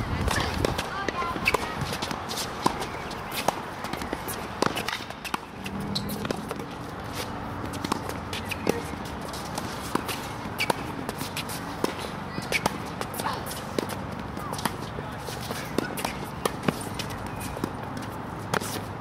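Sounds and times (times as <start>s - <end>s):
sneakers shuffling on court: 0.0s - 19.0s
tennis ball bouncing on court: 0.2s - 18.9s
racket hitting tennis ball: 0.2s - 19.0s.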